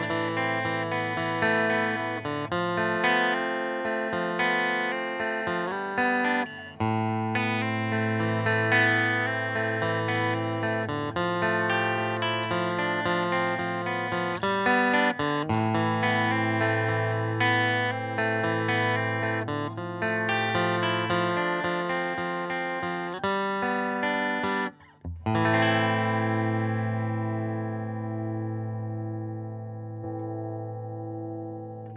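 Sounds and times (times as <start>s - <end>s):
electric guitar playing chords: 0.0s - 31.9s.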